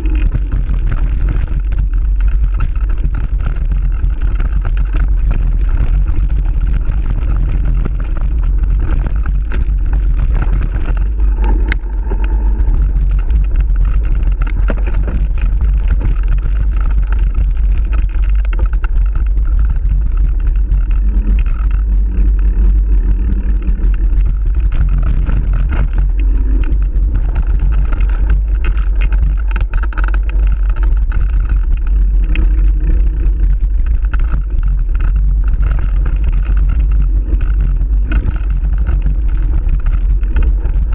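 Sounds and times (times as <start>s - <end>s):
mountain bike rumbling on dirt trail: 0.0s - 40.9s
wind buffeting microphone: 0.0s - 40.9s.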